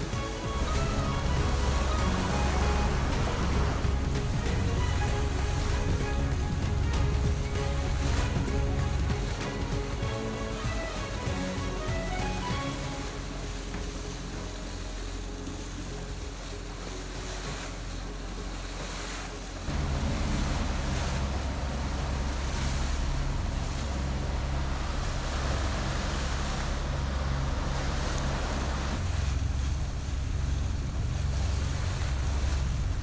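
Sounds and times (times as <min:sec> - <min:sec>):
waves and water washing: 0:00.0 - 0:33.0
wind buffeting microphone: 0:00.0 - 0:33.0.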